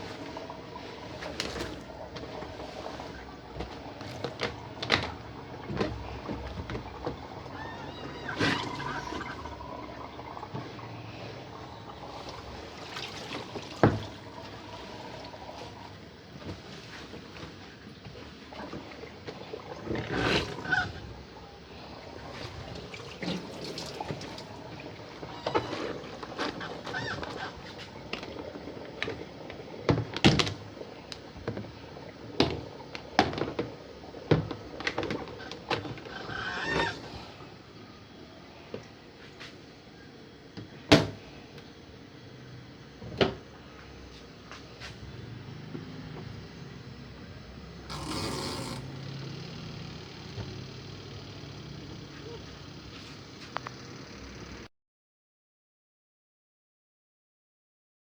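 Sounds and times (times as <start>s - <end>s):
washing machine water sloshing: 0.0s - 54.7s.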